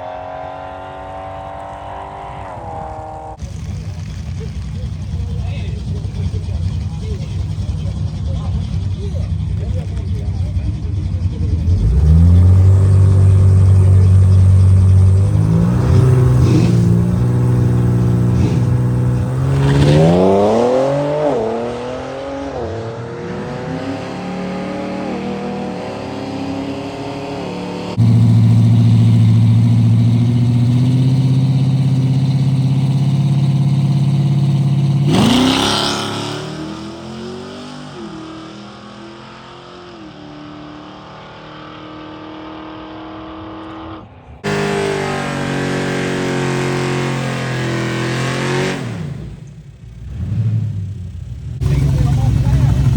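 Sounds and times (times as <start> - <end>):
car engine idling and revving: 0.0 - 52.9
loud engine drone revving: 0.0 - 52.9.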